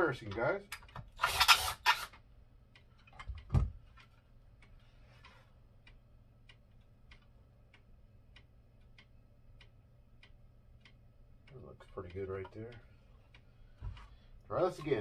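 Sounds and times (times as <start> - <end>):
clock ticking: 0.0 - 1.2, 2.0 - 15.0.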